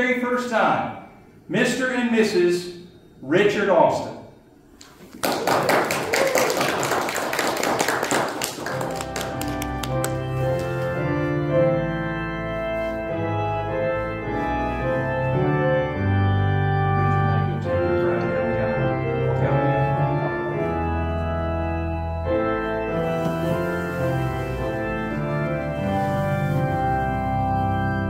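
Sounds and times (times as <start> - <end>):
organ playing slow chords: 0.0 - 5.0, 6.9 - 28.0.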